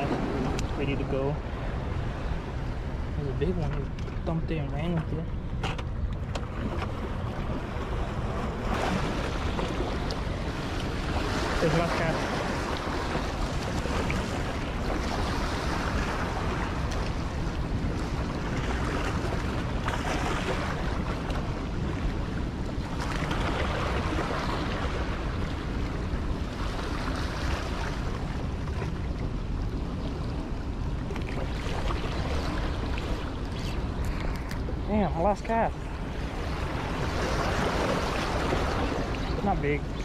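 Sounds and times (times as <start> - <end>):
wind rumbling on microphone: 0.0 - 40.0.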